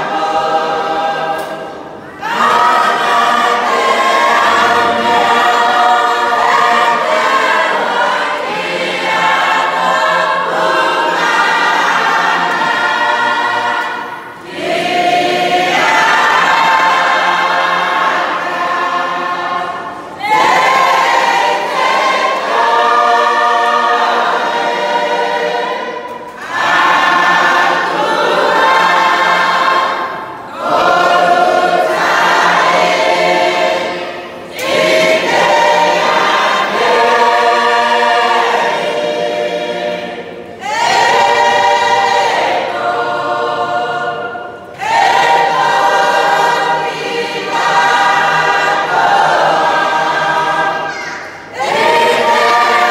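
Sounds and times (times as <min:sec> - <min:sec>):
congregation singing a hymn: 0:00.0 - 0:52.9.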